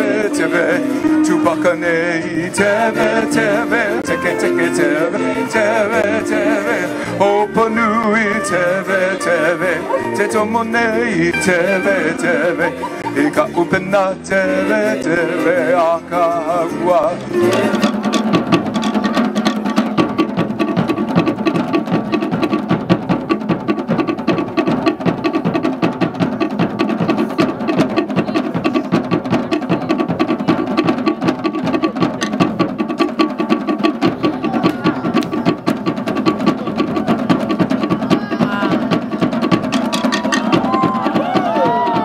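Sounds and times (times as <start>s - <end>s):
fast wooden log drumming: 0.0s - 42.0s.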